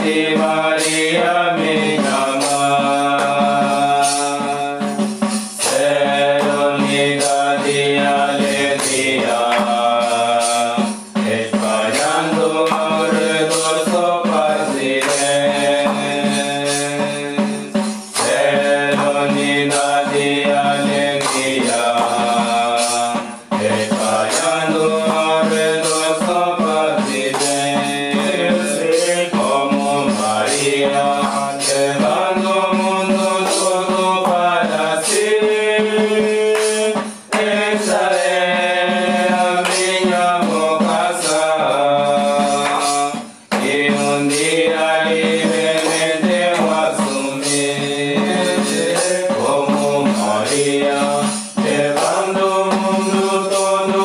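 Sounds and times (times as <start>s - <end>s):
devotional song with accompaniment: 0.0s - 54.0s.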